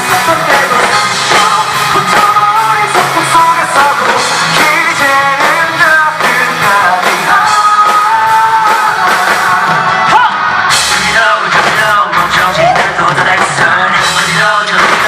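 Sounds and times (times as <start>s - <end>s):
live rock band playing: 0.0s - 15.0s
man singing: 0.0s - 15.0s.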